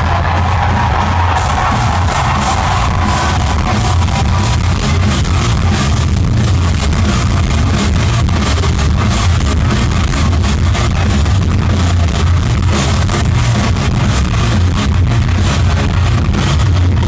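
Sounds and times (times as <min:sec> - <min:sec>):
bass guitar: 0:00.0 - 0:17.0
distorted electric guitar: 0:00.0 - 0:17.0
drums beating: 0:00.0 - 0:17.0.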